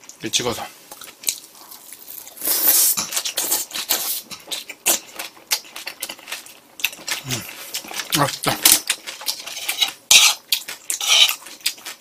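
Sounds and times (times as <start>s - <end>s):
crunchy chewing of fried food: 0.8s - 12.0s.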